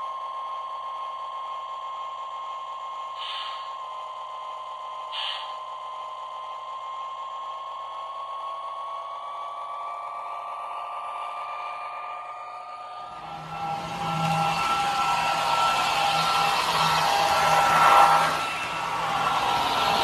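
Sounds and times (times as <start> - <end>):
toy train motor and gear whine: 0.0 - 20.0.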